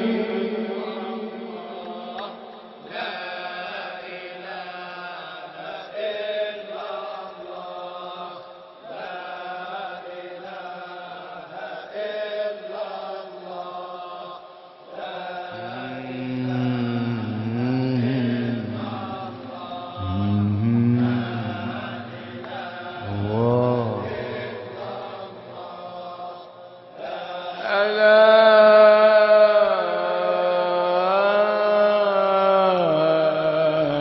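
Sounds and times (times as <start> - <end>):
melodic chanting: 0.0 - 34.0.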